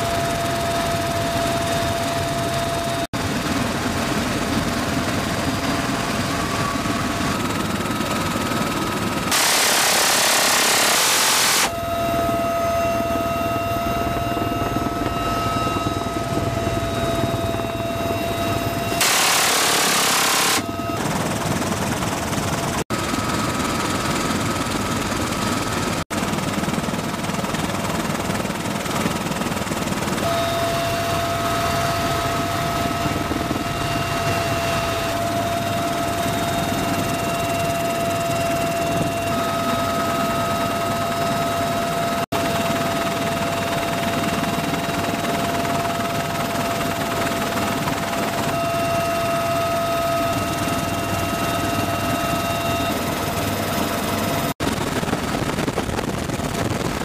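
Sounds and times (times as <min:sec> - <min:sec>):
helicopter rotor and engine noise: 0:00.0 - 0:57.0.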